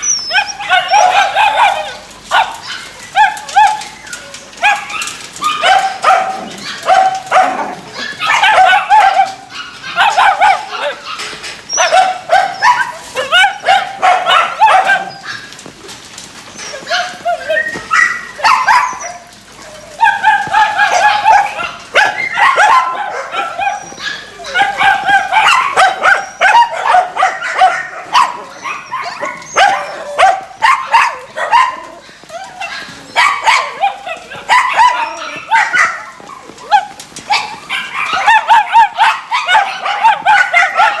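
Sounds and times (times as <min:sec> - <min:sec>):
dogs yipping whining and barking: 0:00.0 - 0:41.0.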